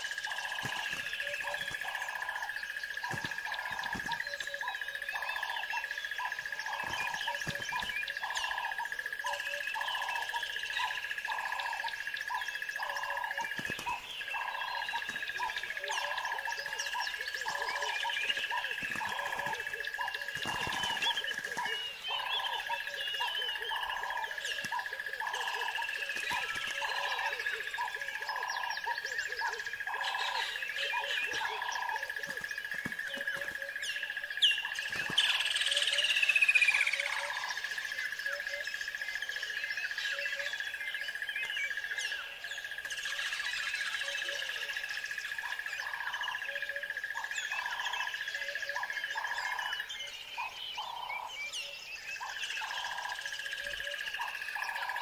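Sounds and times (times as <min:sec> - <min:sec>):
birds calling and chirping: 0:00.0 - 0:55.0.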